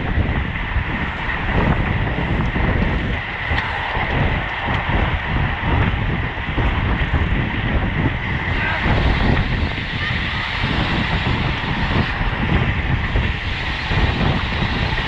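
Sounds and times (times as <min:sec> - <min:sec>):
tyre noise on road: 0:00.0 - 0:15.0
wind rushing on microphone: 0:00.0 - 0:15.0.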